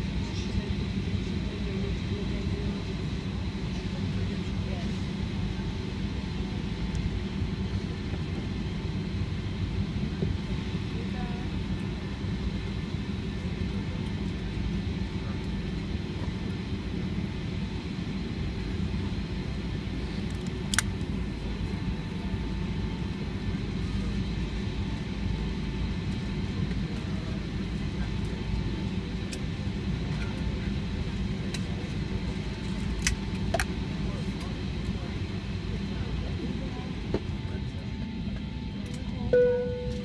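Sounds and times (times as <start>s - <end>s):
aircraft cabin rumble: 0.0s - 40.0s.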